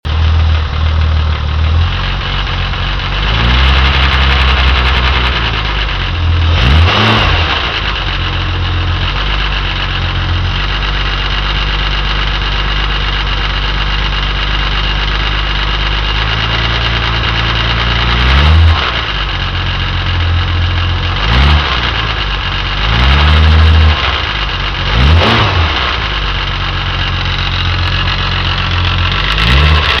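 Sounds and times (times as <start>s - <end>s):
car engine idling with mechanical noise: 0.0s - 30.0s
engine revving: 0.1s - 30.0s.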